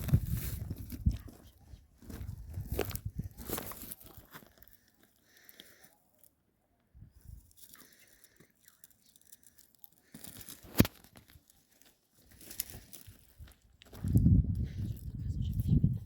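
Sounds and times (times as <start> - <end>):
faint crackling and rustling: 0.0 - 14.8.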